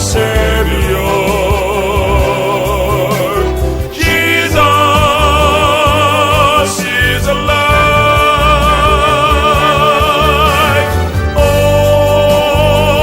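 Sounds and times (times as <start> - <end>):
instrumental backing: 0.0 - 13.0
person singing with vibrato: 0.0 - 13.0.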